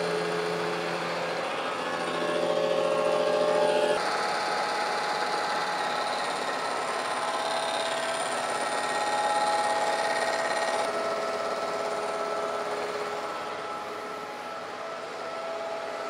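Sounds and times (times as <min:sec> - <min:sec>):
milling cutter cutting steel: 0:00.0 - 0:16.0.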